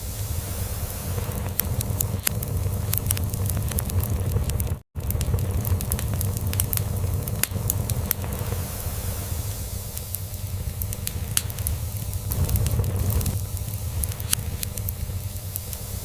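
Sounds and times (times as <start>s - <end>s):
log fire crackling and popping: 0.1s - 16.0s.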